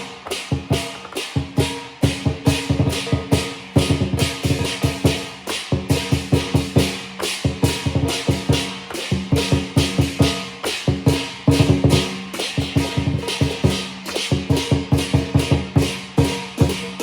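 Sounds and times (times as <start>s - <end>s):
crashing cymbals: 0.0s - 17.0s
large drum beaten fast: 0.0s - 17.0s.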